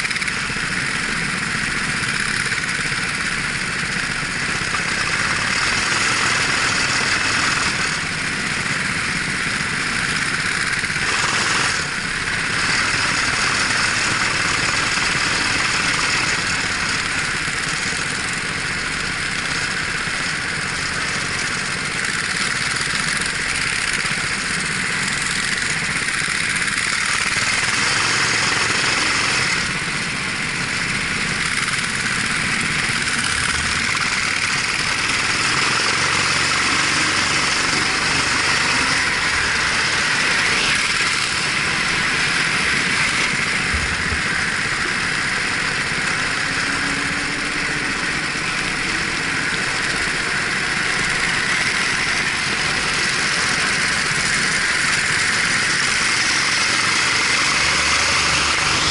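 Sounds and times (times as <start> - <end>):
kart engine running: 0.0 - 58.9.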